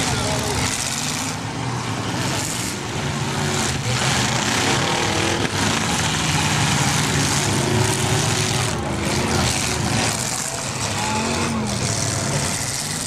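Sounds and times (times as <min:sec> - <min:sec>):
car engines running hard: 0:00.0 - 0:13.0
crowd noise: 0:00.0 - 0:13.0.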